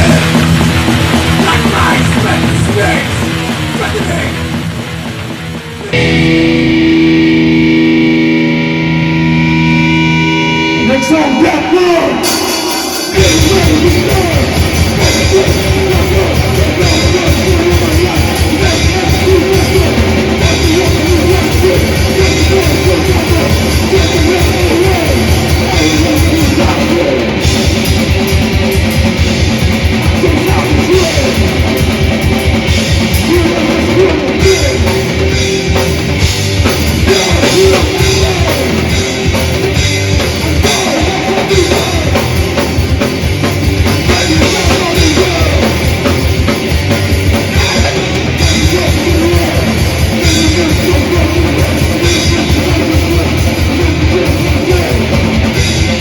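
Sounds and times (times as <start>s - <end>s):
distorted electric guitar riffs: 0.0s - 56.0s
fast dense drumming: 0.0s - 56.0s.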